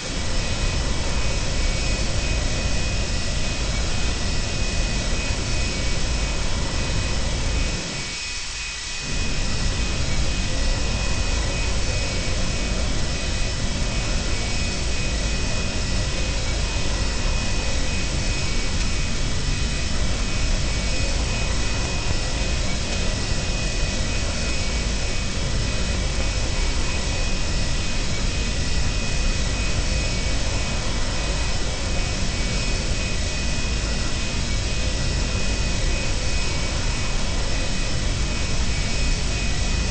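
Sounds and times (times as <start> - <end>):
jet engines heard from cabin: 0.0 - 39.9.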